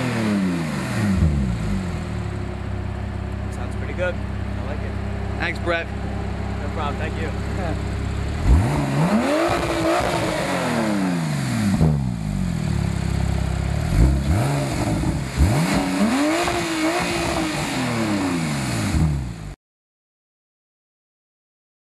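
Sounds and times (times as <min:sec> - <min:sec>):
car engine idling and revving: 0:00.0 - 0:19.6.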